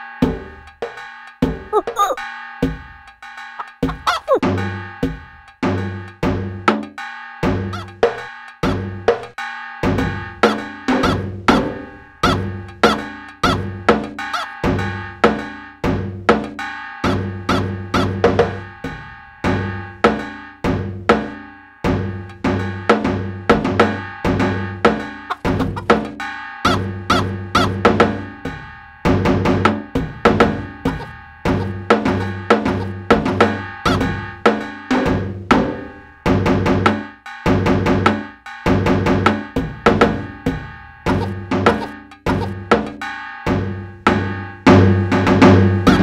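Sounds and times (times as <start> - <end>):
rhythmic percussion music: 0.6 - 19.0, 23.0 - 35.2, 36.8 - 43.6, 44.7 - 46.0.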